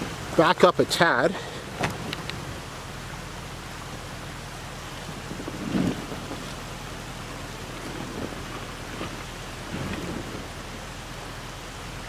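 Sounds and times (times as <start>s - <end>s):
car reversing on gravel: 0.0s - 12.0s.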